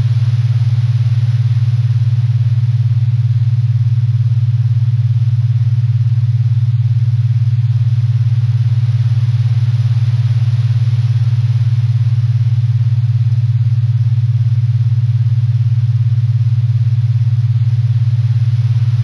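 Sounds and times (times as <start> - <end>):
low throbbing drone: 0.0 - 19.0.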